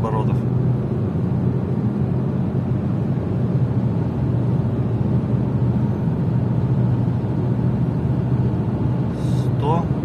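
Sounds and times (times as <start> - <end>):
car engine drone: 0.0 - 10.0
road and tyre noise: 0.0 - 10.0.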